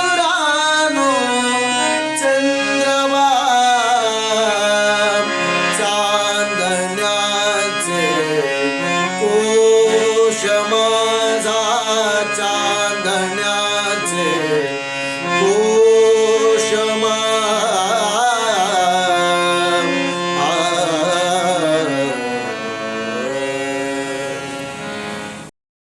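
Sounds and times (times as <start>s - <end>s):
man singing long held notes: 0.0s - 25.2s
instrumental drone: 0.0s - 25.4s.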